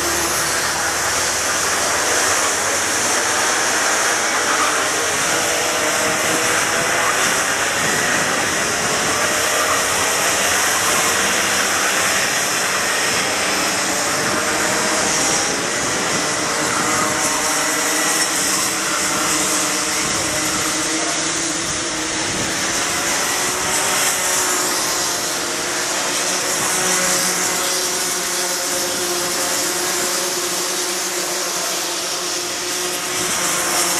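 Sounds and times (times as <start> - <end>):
racing kart engines: 0.0 - 33.9.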